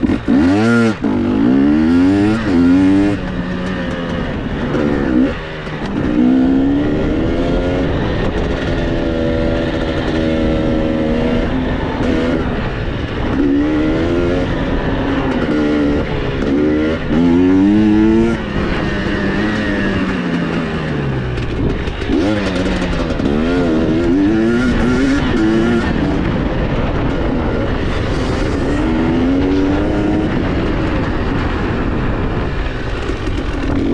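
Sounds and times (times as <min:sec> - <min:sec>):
dirt bike engine revving: 0:00.0 - 0:32.3.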